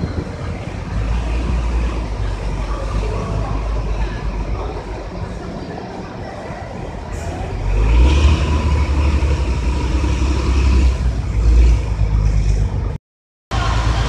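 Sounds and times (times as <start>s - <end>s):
bus exhaust deep rumble: 0.0s - 14.0s.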